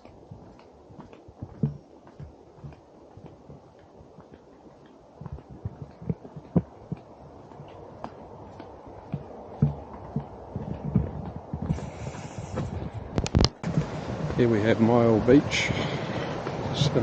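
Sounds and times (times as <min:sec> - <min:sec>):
background rush: 0:00.0 - 0:17.0
footsteps on wooden boardwalk: 0:00.0 - 0:17.0.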